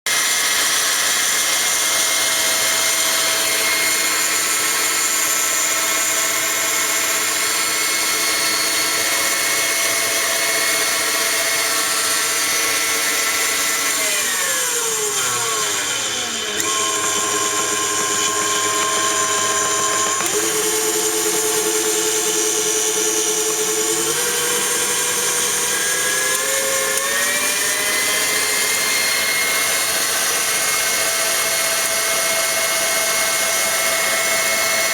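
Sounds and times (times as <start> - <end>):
stand mixer motor whining: 0.1 - 34.9.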